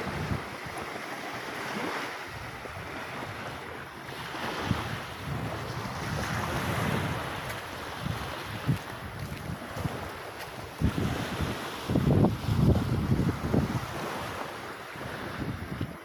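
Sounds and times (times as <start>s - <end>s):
small waves washing on shore: 0.0s - 16.0s
wind buffeting microphone: 0.0s - 16.0s.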